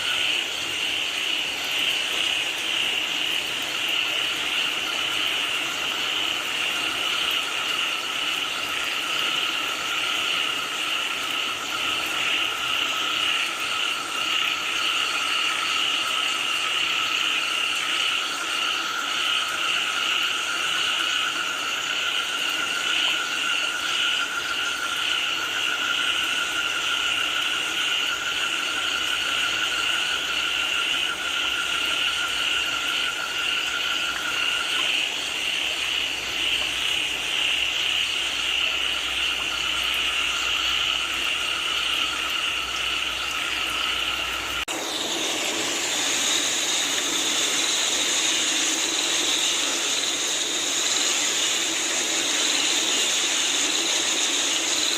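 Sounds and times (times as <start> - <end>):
rain falling: 0.0 - 27.9, 28.6 - 54.9
chorus of frogs calling: 0.0 - 54.9.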